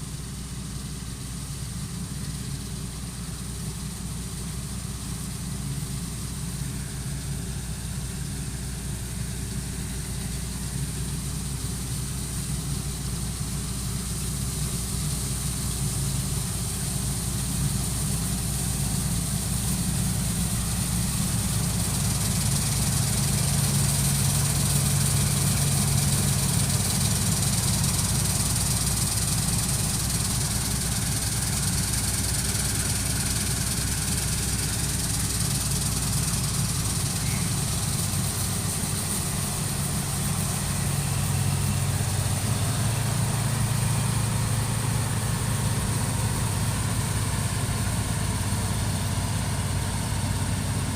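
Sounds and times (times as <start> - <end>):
harvester engine running: 0.0 - 50.9
high-pitched hiss: 0.0 - 50.9.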